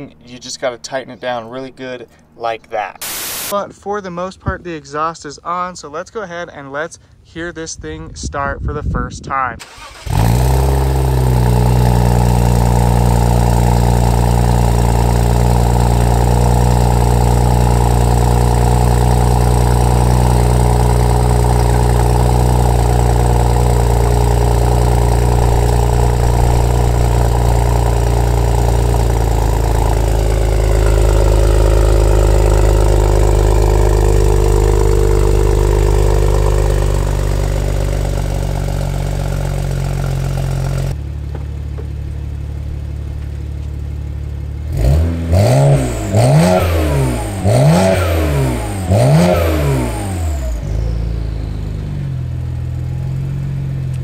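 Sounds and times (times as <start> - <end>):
car engine idling through exhaust: 10.1 - 54.0.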